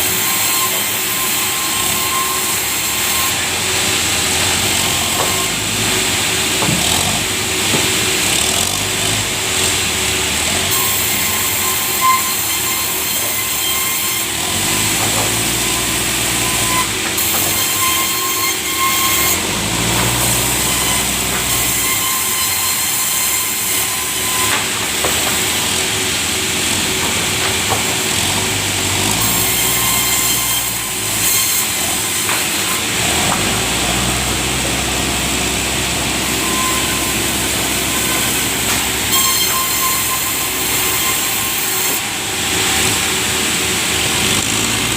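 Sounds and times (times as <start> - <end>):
saw whining: 0.0 - 44.9.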